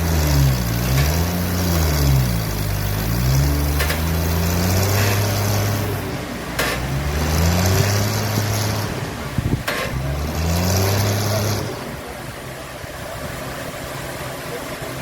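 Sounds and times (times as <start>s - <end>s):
sawmill engine speeding up: 0.0s - 12.2s.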